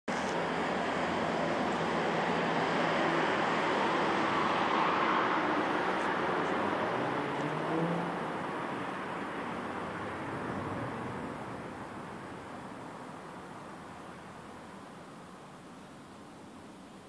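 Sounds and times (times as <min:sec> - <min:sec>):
road traffic rushing: 0:00.1 - 0:17.0.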